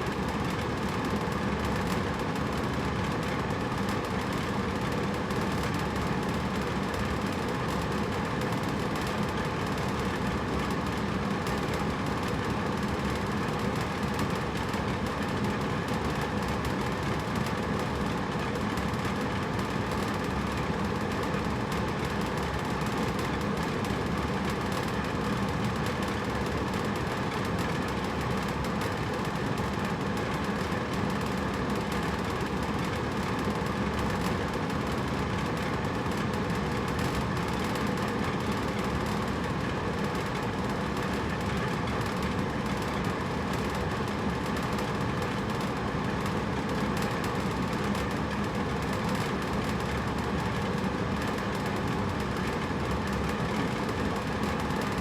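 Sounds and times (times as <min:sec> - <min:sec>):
air conditioner blowing air: 0:00.0 - 0:55.0.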